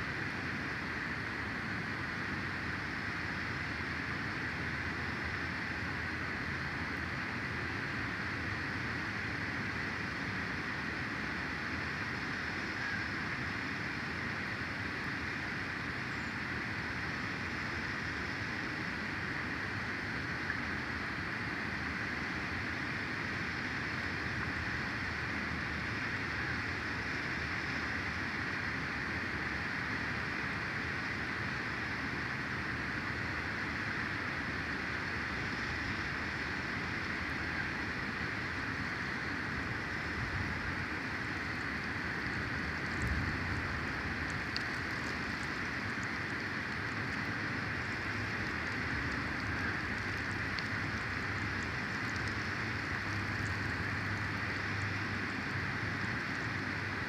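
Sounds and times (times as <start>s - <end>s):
outdoor hiss: 0.0s - 57.0s.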